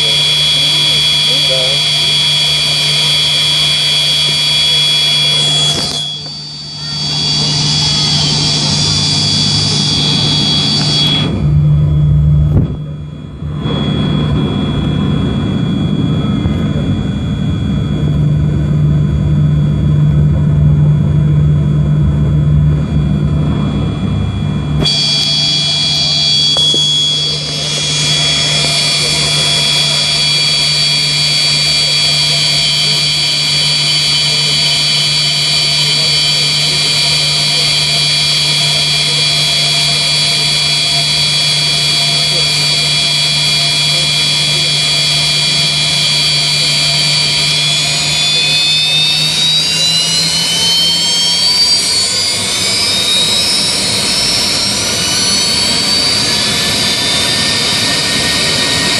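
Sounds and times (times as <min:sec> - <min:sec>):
jet engines high whine: 0:00.0 - 0:58.9.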